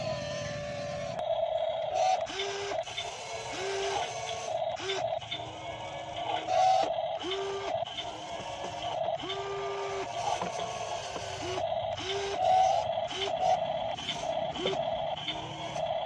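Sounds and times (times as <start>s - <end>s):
small electric motors whirring: 0.0s - 16.0s.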